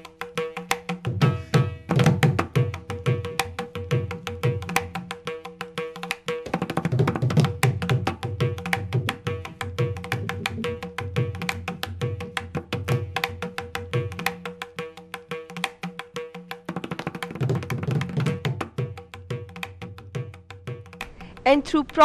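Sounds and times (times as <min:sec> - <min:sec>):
fast sharp percussion: 0:00.0 - 0:22.0.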